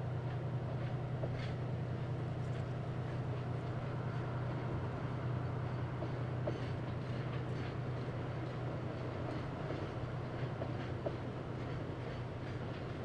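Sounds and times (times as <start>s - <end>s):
locomotive diesel engine drone: 0.0s - 13.0s.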